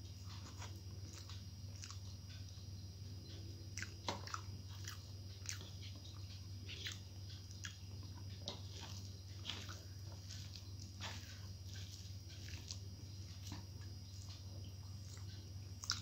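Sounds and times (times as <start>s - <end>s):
steady low hum: 0.0s - 16.0s
person chewing with mouth sounds: 0.1s - 2.6s, 3.7s - 16.0s.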